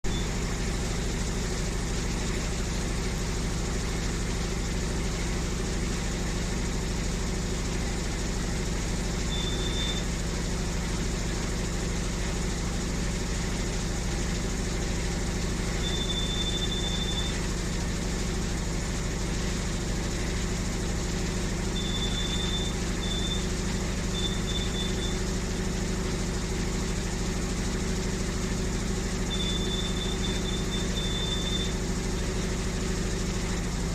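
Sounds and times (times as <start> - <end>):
washing machine spinning hum: 0.0 - 33.9.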